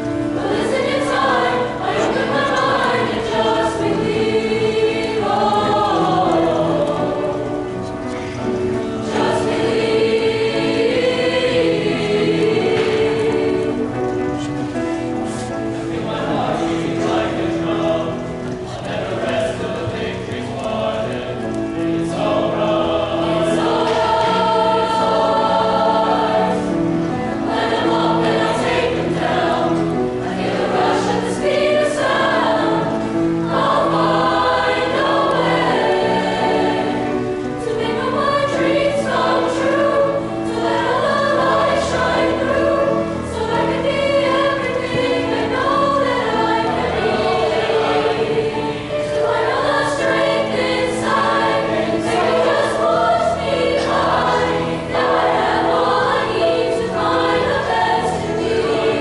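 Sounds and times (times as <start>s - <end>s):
mixed choir singing: 0.0s - 59.0s
piano: 0.0s - 59.0s.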